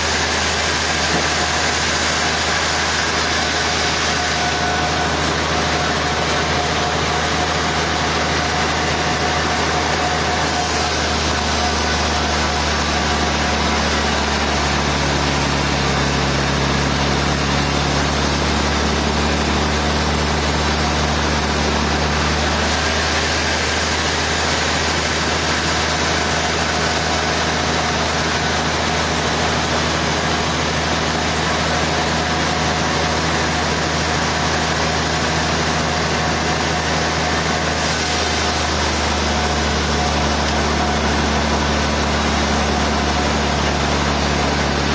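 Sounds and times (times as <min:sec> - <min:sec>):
constant mechanical noise: 0:00.0 - 0:44.9.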